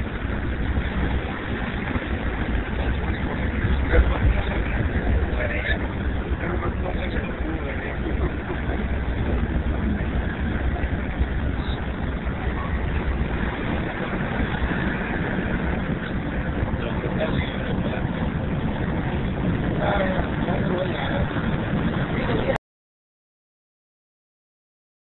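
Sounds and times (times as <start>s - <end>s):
bus engine and road noise: 0.0s - 22.6s.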